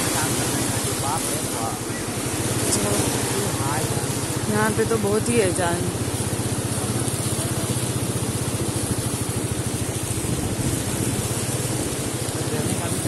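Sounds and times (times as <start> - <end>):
scooter engine running: 0.0 - 13.0
water rushing around wheels: 0.0 - 13.0.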